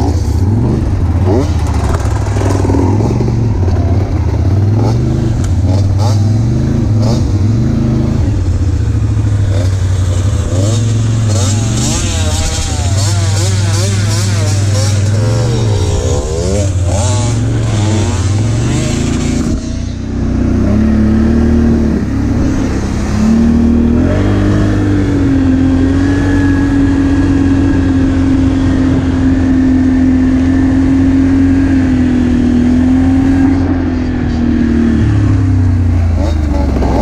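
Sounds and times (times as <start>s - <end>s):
atv engine running: 0.0s - 37.0s
dirt bike engine revving: 0.0s - 37.0s.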